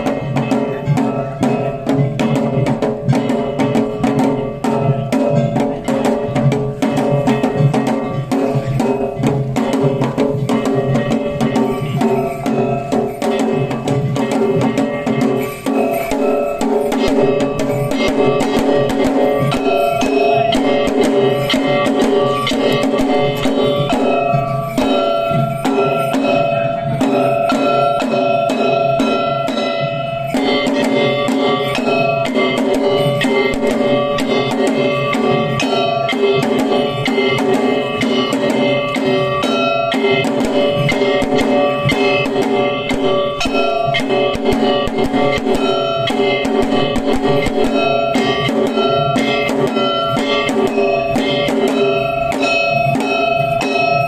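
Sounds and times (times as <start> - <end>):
fast drums and percussion: 0.0 - 54.0
ringing tones: 0.0 - 54.0.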